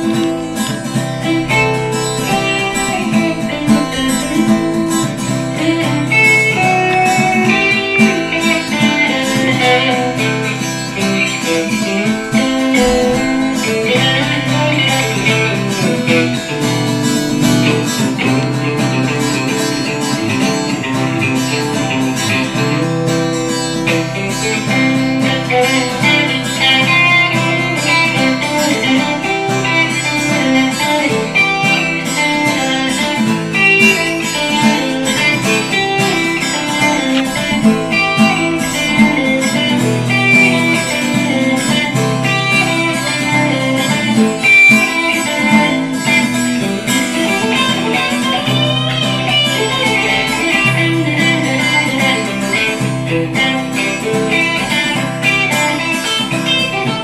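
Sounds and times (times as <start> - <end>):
guitars jamming: 0.0 - 57.0.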